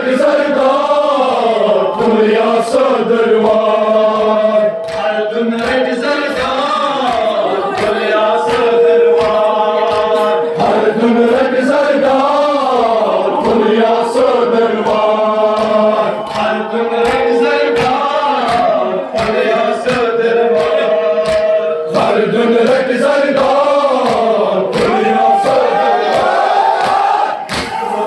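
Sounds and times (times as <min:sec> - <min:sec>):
group chanting a lament: 0:00.0 - 0:28.0
sharp rhythmic thumps: 0:00.0 - 0:28.0.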